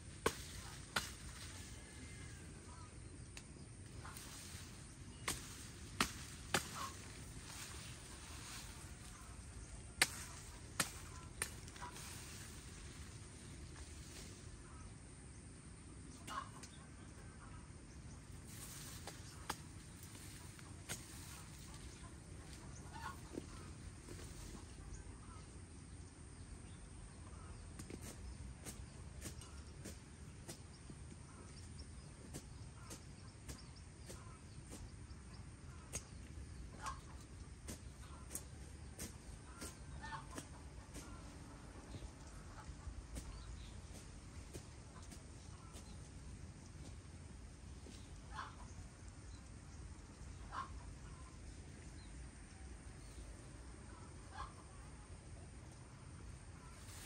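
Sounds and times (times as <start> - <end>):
low outdoor background: 0.0 - 57.0
low steady hum: 0.0 - 57.0
faint bird chirps: 0.5 - 57.0.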